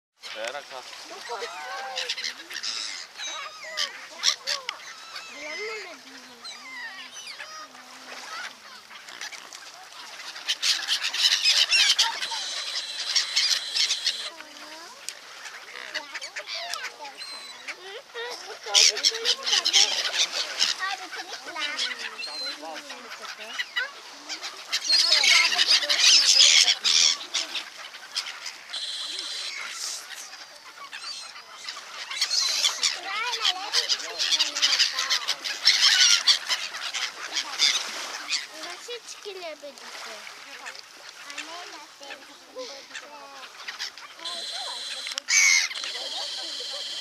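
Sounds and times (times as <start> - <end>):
gulls and swans calling: 0.2 - 47.0.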